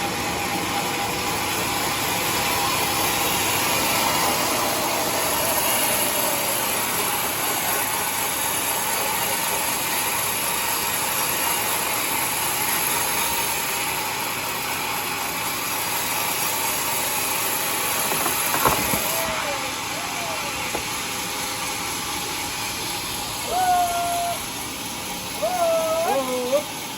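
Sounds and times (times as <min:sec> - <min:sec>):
band sawmill running: 0:00.0 - 0:26.9.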